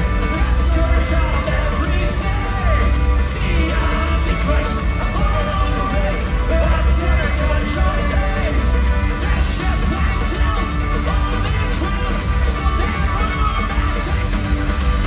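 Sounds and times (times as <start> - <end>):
punk band playing a jig: 0.0 - 15.0.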